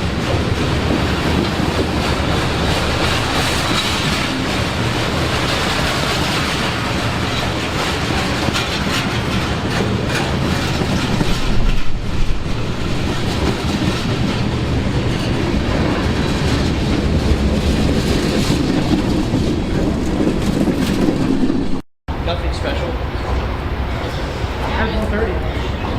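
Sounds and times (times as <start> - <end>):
wheels clicking over rail joints: 0.0 - 21.8
train rumbling past: 0.0 - 25.9.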